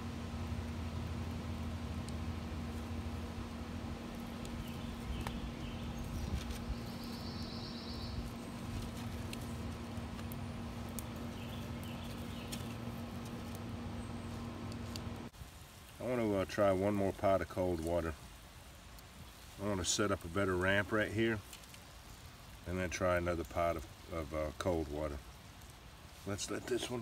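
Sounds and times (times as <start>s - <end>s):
faint fire crackles: 0.0s - 27.0s
fire hissing and rumbling: 0.0s - 27.0s.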